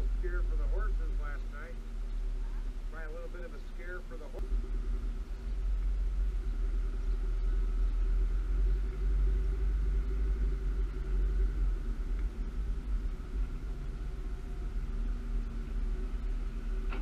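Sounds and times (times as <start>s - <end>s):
moving car hum: 0.0s - 17.0s
wind and road noise rumble: 0.0s - 17.0s.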